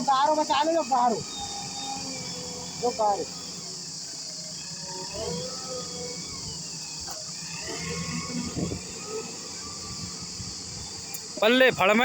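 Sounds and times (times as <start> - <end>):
crickets chirring: 0.0 - 12.0
machine engine humming: 0.0 - 12.0.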